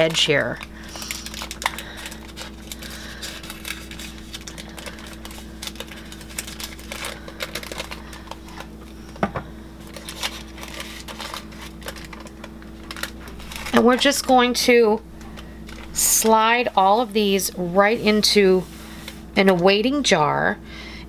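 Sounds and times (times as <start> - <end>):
parchment paper crinkling: 0.0 - 9.2, 9.8 - 19.7
faint steady hum: 0.0 - 21.0.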